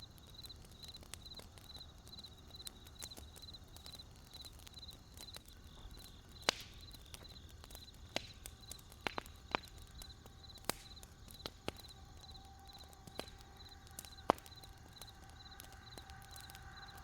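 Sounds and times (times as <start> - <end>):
campfire crackling and popping: 0.0 - 17.0
crickets chirping: 0.0 - 17.0.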